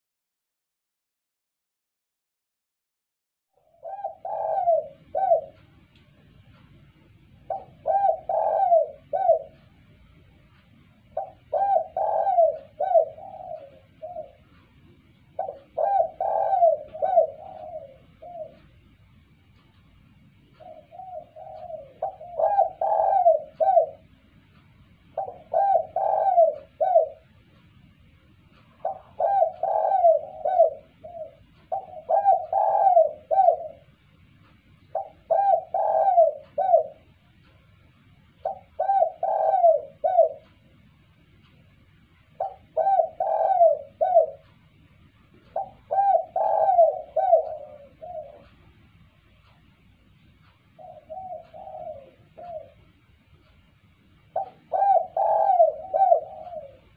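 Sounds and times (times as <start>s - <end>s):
dove cooing: 3.6s - 27.6s, 28.4s - 34.2s, 34.8s - 37.6s, 38.2s - 40.8s, 41.6s - 49.6s, 50.4s - 53.6s, 54.2s - 56.9s.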